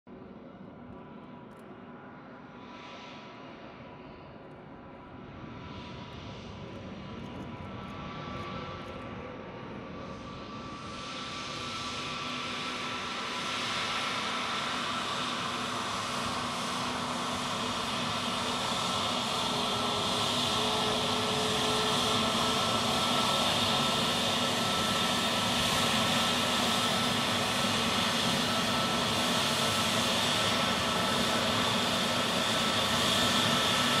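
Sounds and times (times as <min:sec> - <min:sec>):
jet engines whining at taxi power: 0:00.6 - 0:34.0.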